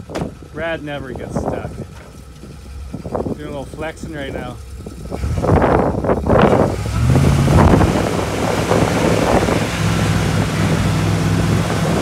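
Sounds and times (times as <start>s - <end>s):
pickup truck engine at low throttle: 0.0s - 12.0s
wind buffeting microphone: 0.0s - 12.0s.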